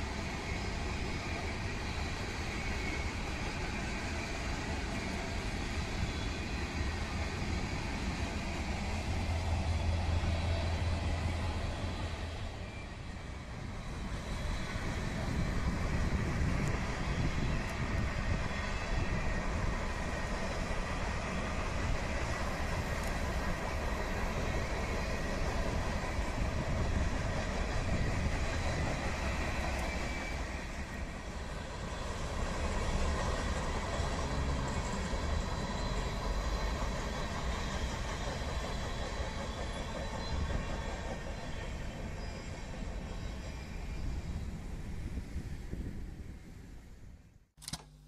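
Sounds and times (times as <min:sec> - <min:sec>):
freight train rumbling past: 0:00.0 - 0:47.4.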